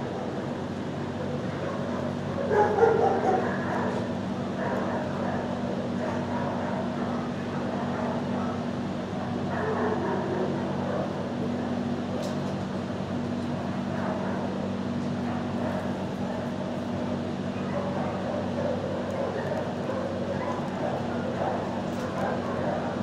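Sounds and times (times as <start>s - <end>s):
muffled dogs barking: 0.0s - 12.4s, 13.4s - 23.0s
low machine hum: 0.0s - 23.0s.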